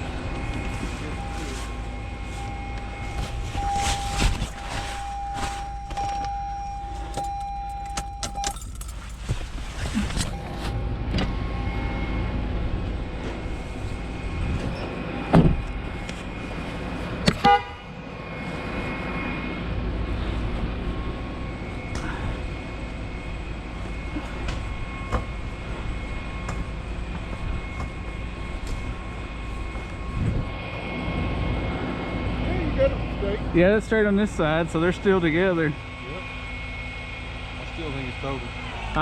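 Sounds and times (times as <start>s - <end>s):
high whine: 0.0s - 39.0s
vehicle engine running: 0.0s - 39.0s.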